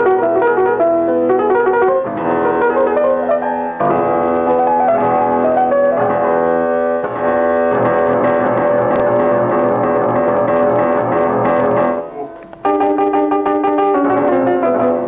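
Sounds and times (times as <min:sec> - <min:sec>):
keyboard playing held chords: 0:00.0 - 0:15.0.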